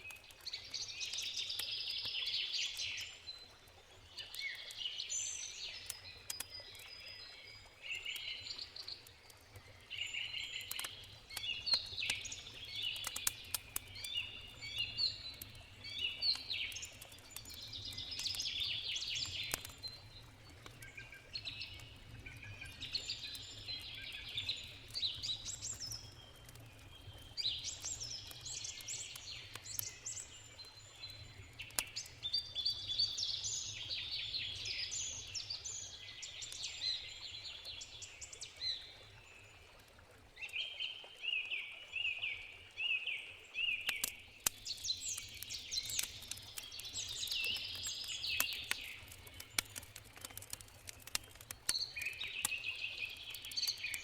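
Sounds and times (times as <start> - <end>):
campfire crackling: 0.0 - 40.6, 43.6 - 54.0
songbirds chirping: 0.0 - 54.0.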